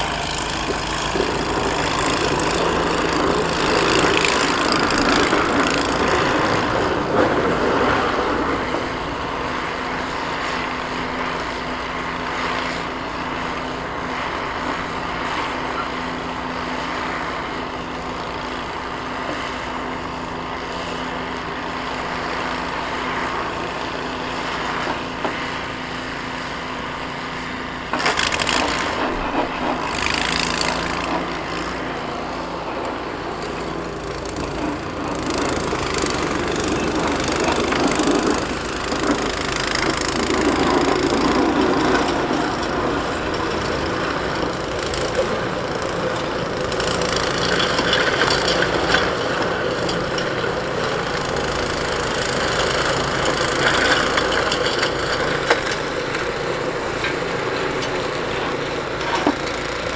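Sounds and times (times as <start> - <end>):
plow blade scraping snow: 0.0 - 59.9
truck engine hum: 0.0 - 59.9.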